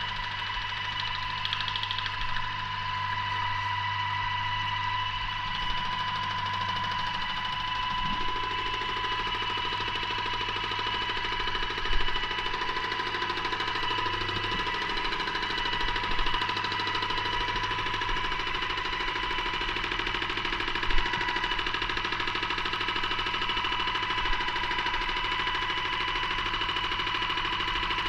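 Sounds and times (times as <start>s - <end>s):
paint sprayer whining: 0.0s - 28.0s.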